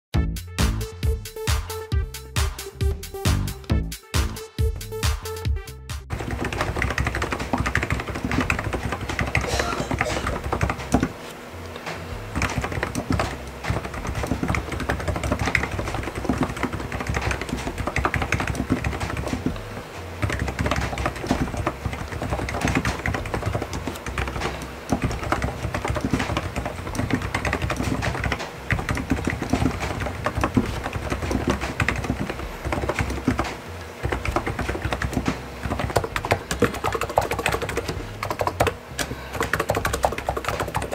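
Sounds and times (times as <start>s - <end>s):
fast typing on a keyboard: 6.1s - 11.2s, 12.3s - 40.9s.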